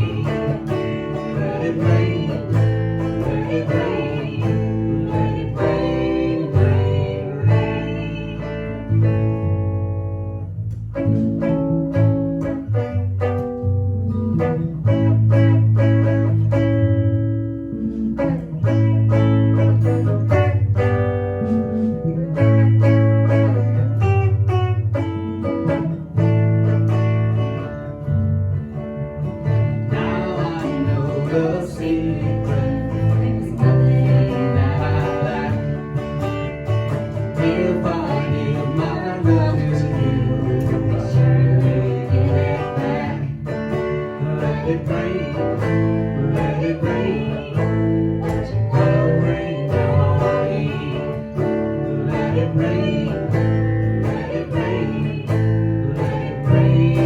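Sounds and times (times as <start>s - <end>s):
bass line: 0.0s - 57.0s
live guitar band music: 0.0s - 57.0s.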